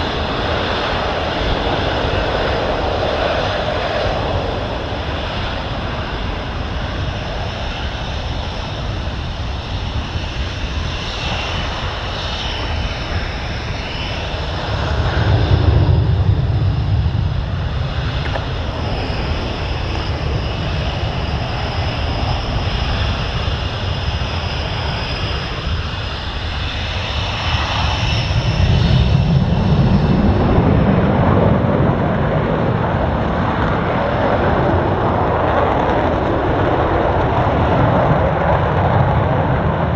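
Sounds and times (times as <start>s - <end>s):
jet engine rumble: 0.0s - 39.9s
jet engine turbine whine: 0.0s - 39.9s.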